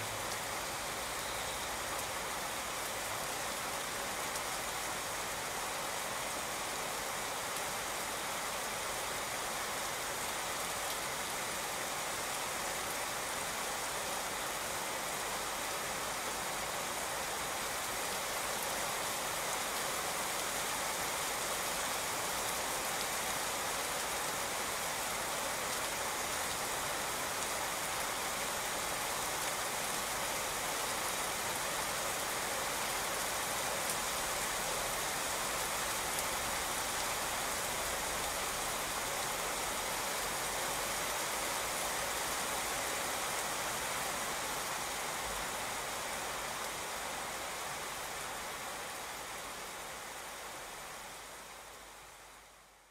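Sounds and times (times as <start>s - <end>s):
rain falling on wet street: 0.0s - 52.9s.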